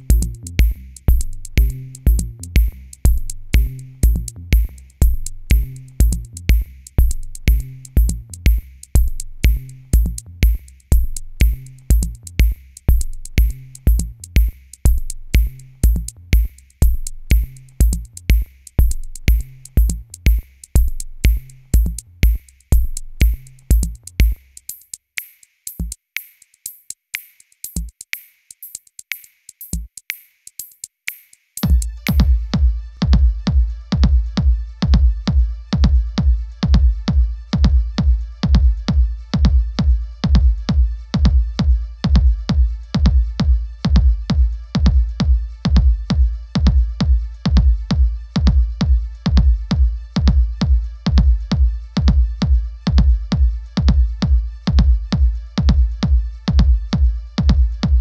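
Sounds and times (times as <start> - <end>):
electronic music with heavy bass: 0.0 - 24.9, 31.6 - 58.0.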